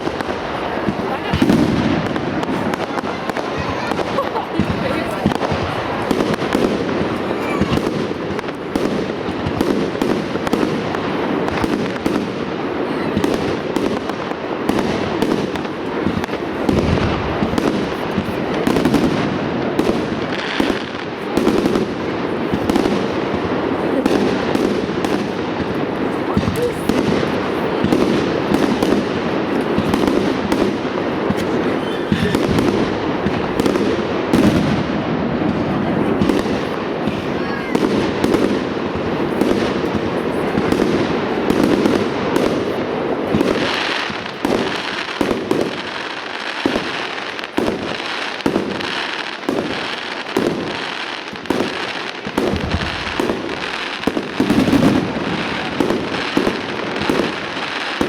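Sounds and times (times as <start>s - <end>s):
fireworks crackle: 0.0s - 58.0s.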